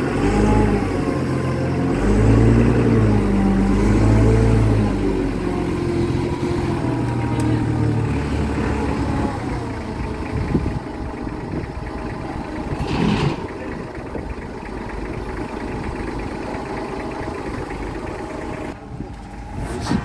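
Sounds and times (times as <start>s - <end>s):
forklift engine idling: 0.0s - 20.0s.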